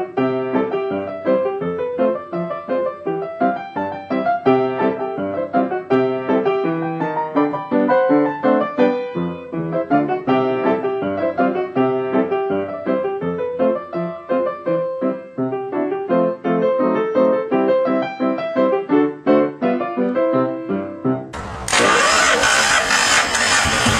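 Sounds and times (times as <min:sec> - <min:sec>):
solo piano tune: 0:00.0 - 0:21.4.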